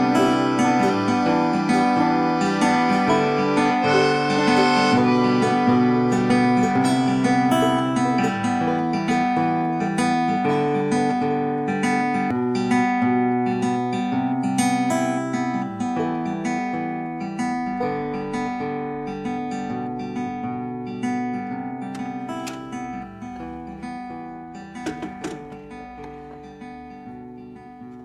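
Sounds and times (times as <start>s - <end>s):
acoustic guitar strumming and picking: 0.0s - 28.0s.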